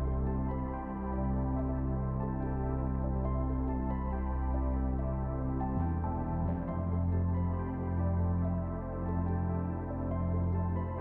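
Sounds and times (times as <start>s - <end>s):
calm ambient instrumental music: 0.0s - 11.0s.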